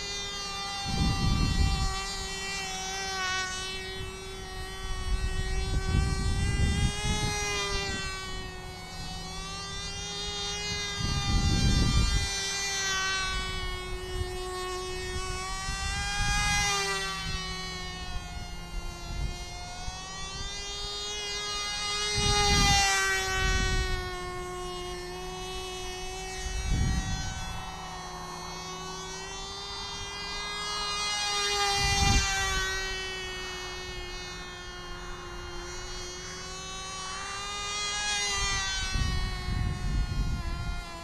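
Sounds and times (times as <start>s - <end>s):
wind rumble on microphone: 0.0s - 30.1s, 31.6s - 33.2s, 36.0s - 41.0s
model plane engine buzzing: 0.0s - 41.0s.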